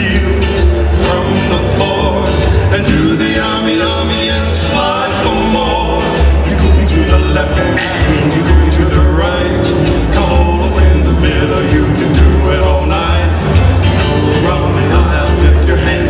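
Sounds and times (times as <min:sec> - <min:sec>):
guitar: 0:00.0 - 0:16.0
person singing: 0:00.0 - 0:16.0
pulsing bass line: 0:00.0 - 0:16.0.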